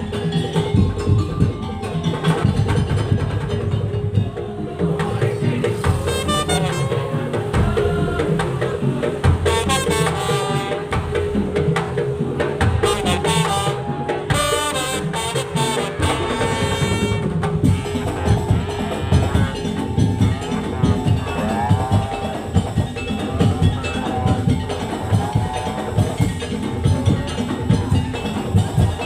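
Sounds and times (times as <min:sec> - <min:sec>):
drums and slit drums: 0:00.0 - 0:29.0
reedy wind melody: 0:00.0 - 0:29.0.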